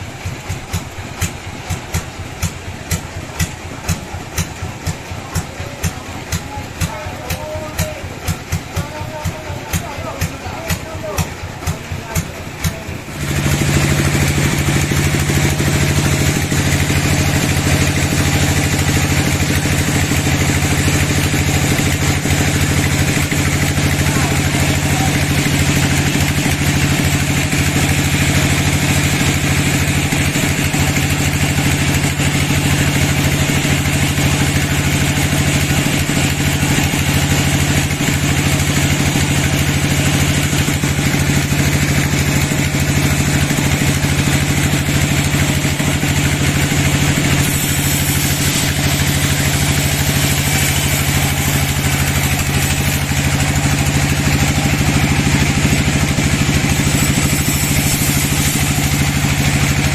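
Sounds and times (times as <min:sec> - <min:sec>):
bandsaw machine humming: 0:00.0 - 0:59.9.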